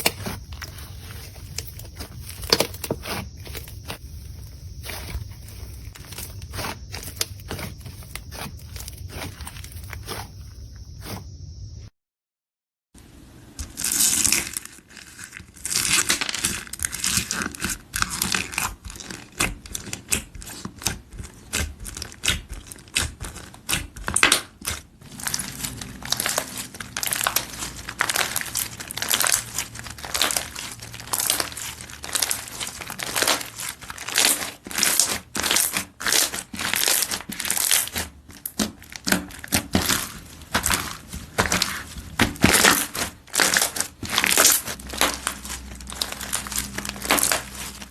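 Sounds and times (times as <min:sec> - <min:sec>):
slime squishing: 0:00.0 - 0:11.2, 0:13.7 - 0:47.9.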